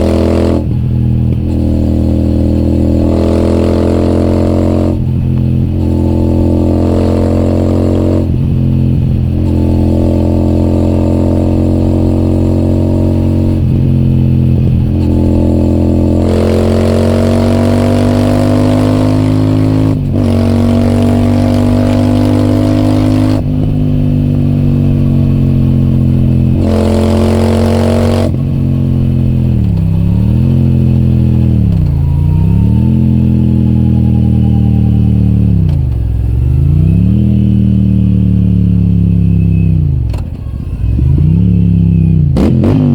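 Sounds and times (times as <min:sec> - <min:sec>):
motorcycle engine under load: 0:00.0 - 0:42.9.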